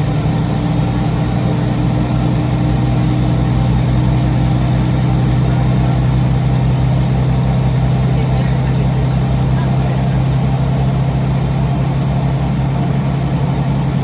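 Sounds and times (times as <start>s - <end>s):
bus engine running: 0.0s - 14.0s
low pulsing of blown exhaust: 0.0s - 14.0s.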